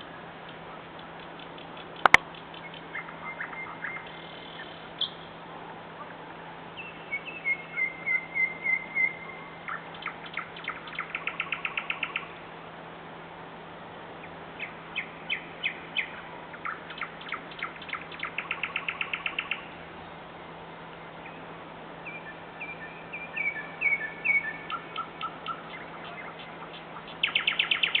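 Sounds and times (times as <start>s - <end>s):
nightingale singing: 0.0s - 5.4s, 6.0s - 12.4s, 14.2s - 20.2s, 21.0s - 28.0s.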